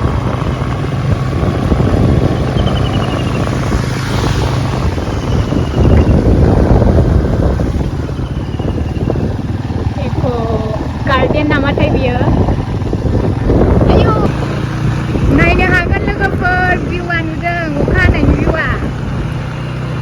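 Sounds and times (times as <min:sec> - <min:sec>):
vehicle engine running: 0:00.0 - 0:20.0
wind buffeting microphone: 0:00.0 - 0:20.0.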